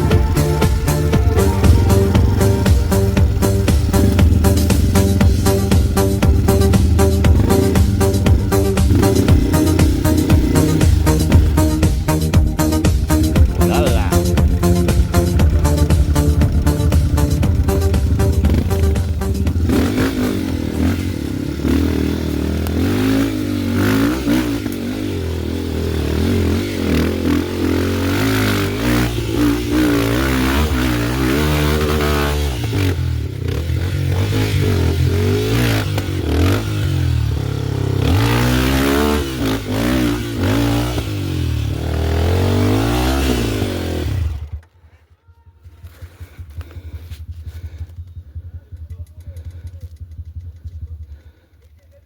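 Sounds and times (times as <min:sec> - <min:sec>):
motorcycle engine revving: 0:00.0 - 0:44.7.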